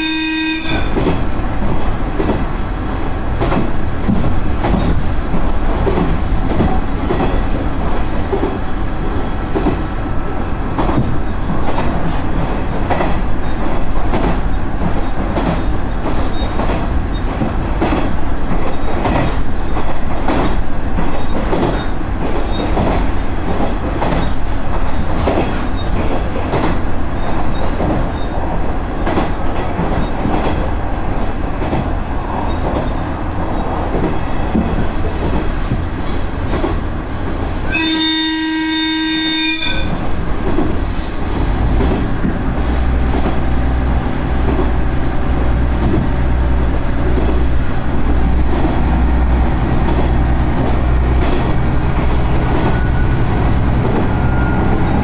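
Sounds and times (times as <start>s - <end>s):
railcar engine and wheels rumbling: 0.0s - 55.0s
wheels clacking on track: 0.7s - 2.6s, 3.3s - 9.8s, 10.7s - 37.7s, 39.7s - 55.0s.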